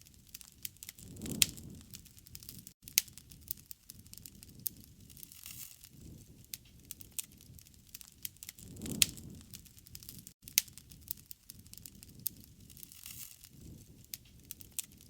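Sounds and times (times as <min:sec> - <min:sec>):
wood fire crackling: 0:00.0 - 0:15.0
low rush of flames: 0:00.1 - 0:15.0
sharp pops of fire: 0:00.2 - 0:15.0.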